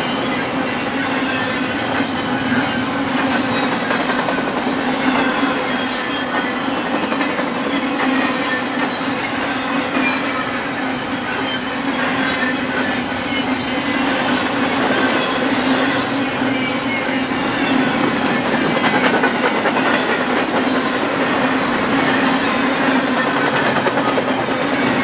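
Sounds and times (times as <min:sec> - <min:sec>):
high wheel squeals: 0:00.0 - 0:25.0
steel wheels rolling on rails: 0:00.0 - 0:25.0.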